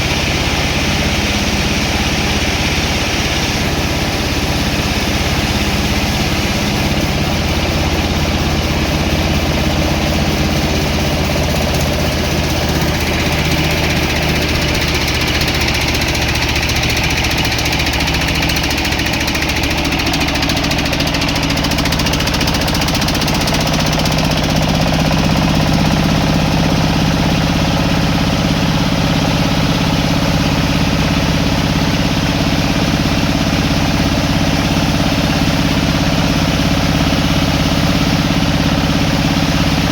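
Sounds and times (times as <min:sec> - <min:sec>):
high machine whine: 0:00.0 - 0:35.4
sawmill machinery drone: 0:00.0 - 0:39.9.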